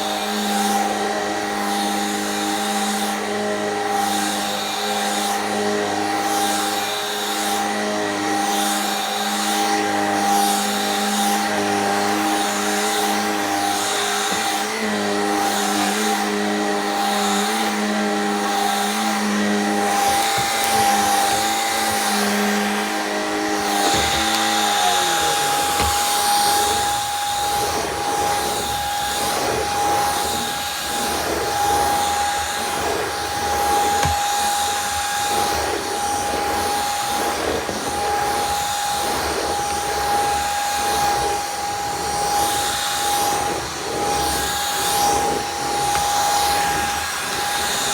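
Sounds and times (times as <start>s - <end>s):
vacuum high whine: 0.0s - 47.9s.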